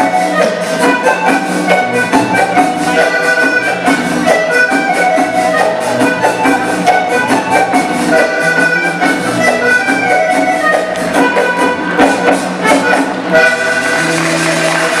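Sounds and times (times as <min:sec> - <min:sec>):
accordion melody: 0:00.0 - 0:15.0
hand drums: 0:00.0 - 0:15.0
strummed guitars: 0:00.0 - 0:15.0.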